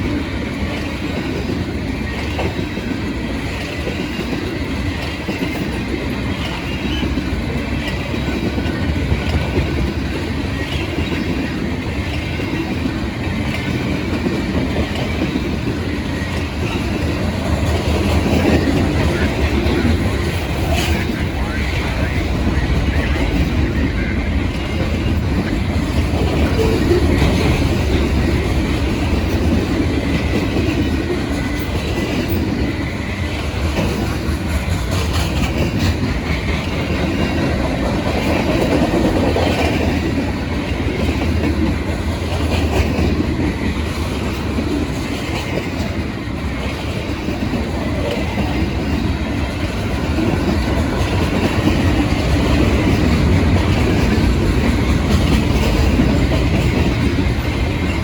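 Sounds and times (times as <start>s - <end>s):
freight train rolling past: 0.0s - 58.0s
train cars rattling: 0.0s - 58.0s.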